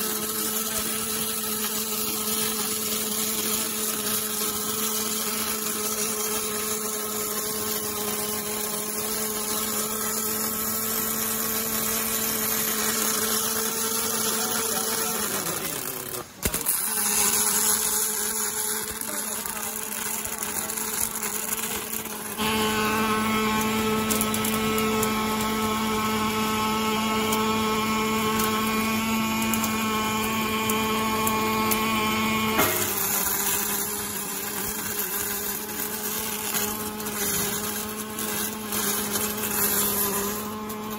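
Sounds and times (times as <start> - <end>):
welding arc hissing and crackling: 0.0 - 40.9
machine hum: 0.1 - 40.9.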